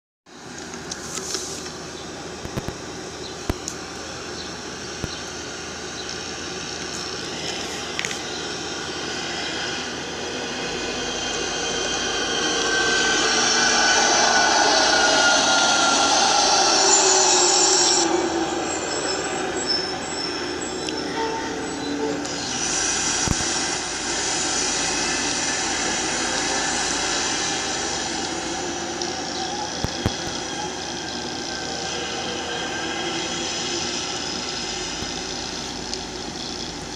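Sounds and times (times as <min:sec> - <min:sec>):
vehicle engine whine: 0:00.3 - 0:36.9
deeper hum: 0:01.7 - 0:36.9.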